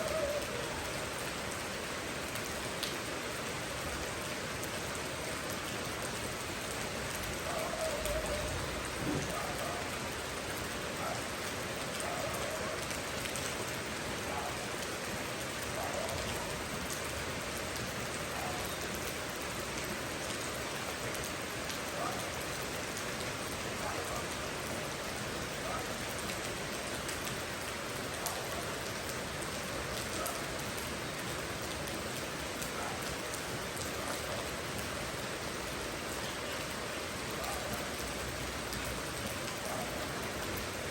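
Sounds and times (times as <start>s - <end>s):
heavier raindrops: 0.0s - 40.9s
rain falling: 0.0s - 40.9s.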